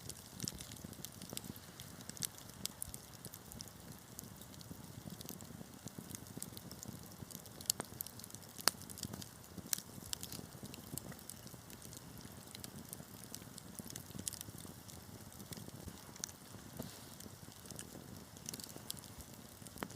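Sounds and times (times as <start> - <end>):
fire popping: 0.0 - 19.9
wood fire crackling: 0.0 - 19.9.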